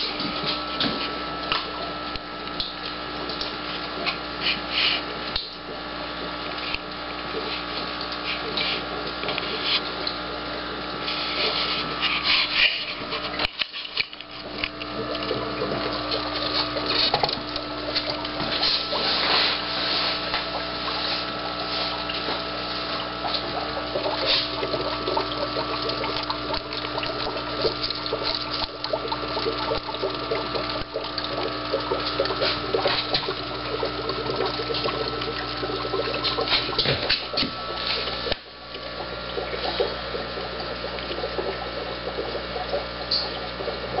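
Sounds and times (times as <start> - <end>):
aquarium pumps humming: 0.0 - 44.0
water splashing and bubbling: 0.0 - 44.0.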